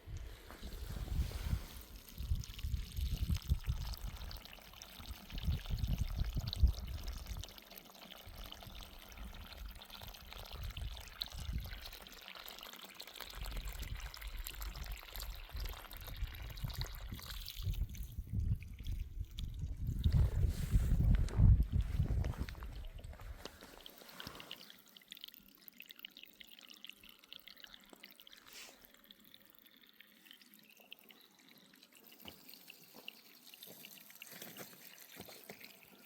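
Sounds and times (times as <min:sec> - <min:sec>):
water pouring and trickling: 0:00.0 - 0:36.0.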